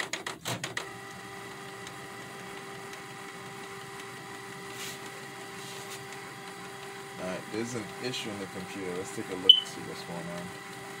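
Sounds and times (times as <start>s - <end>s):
inkjet printer whirring: 0.0s - 11.0s.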